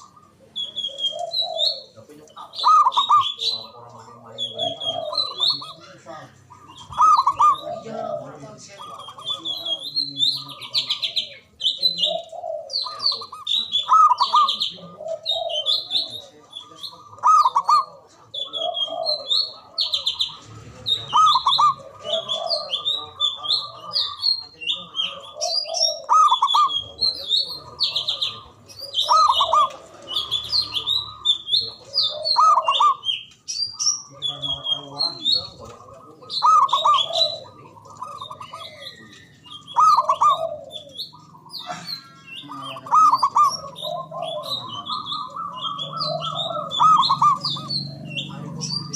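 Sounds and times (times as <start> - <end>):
dove cooing: 0.0 - 48.9
small birds chirping: 0.0 - 48.9.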